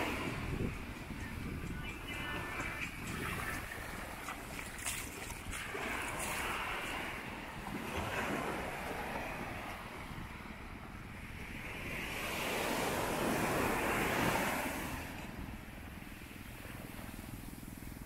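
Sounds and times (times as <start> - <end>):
sea waves breaking: 0.0 - 18.0
wind rumbling on microphone: 0.0 - 18.0.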